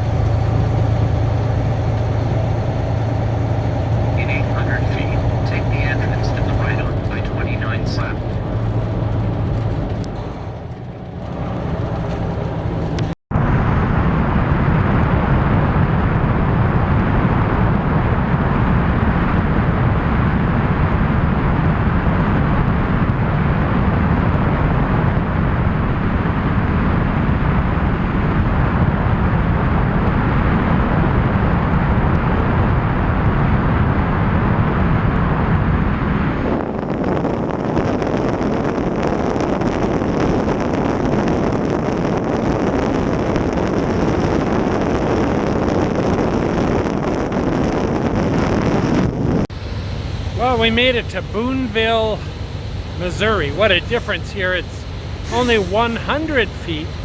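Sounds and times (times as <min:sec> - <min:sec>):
truck driving at highway speed: 0:00.0 - 0:57.0.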